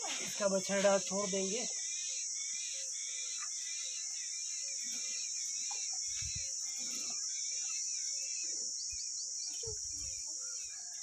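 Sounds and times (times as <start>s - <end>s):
high-pitched insect drone: 0.0s - 11.0s
small birds chirping: 0.0s - 11.0s.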